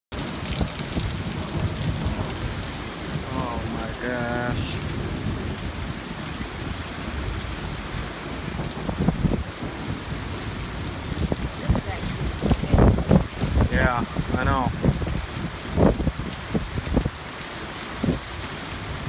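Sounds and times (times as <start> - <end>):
heavy rain pouring: 0.1 - 19.0
thunder rumbling: 0.2 - 17.2.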